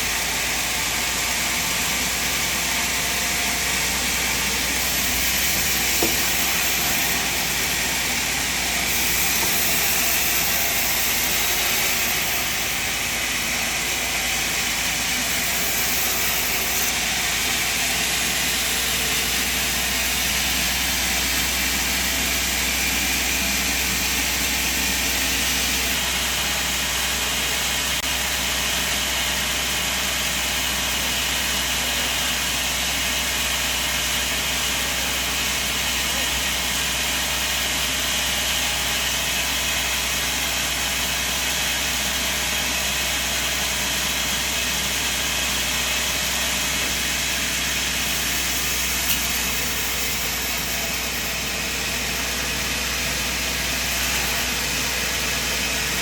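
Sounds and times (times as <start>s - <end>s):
sawmill machine drone: 0.0s - 56.0s.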